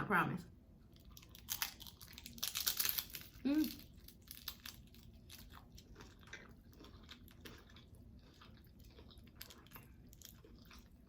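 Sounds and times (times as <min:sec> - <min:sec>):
chewing food: 0:00.8 - 0:11.0.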